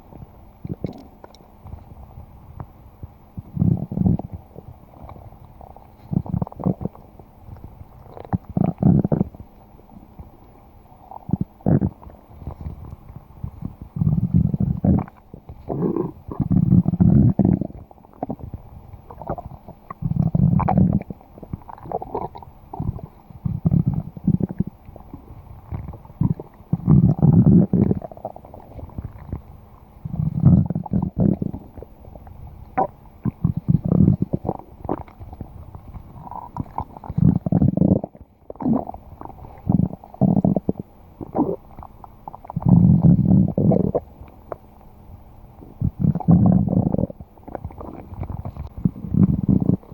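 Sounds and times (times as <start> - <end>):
stomach growling: 0.0 - 49.9.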